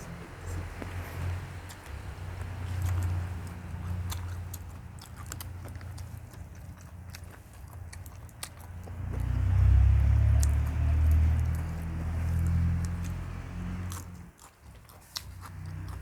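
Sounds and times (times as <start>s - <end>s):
low chewing rumble: 0.0s - 16.0s
person chewing food: 0.0s - 16.0s.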